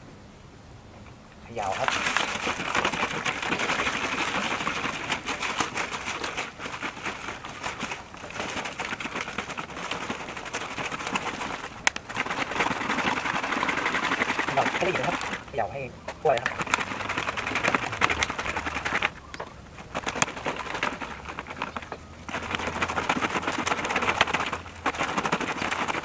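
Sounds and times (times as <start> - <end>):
liquid sloshing in shaken bottle: 1.5 - 26.0.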